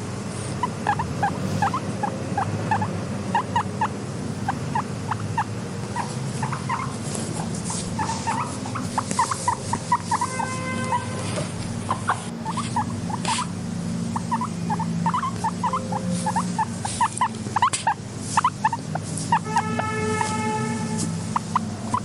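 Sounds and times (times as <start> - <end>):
steady low hum: 0.0 - 22.0
guinea pigs squeaking: 0.4 - 22.0.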